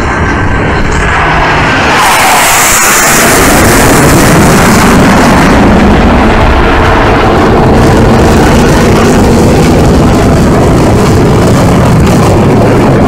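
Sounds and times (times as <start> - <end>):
jet engines flying past: 0.0 - 13.0.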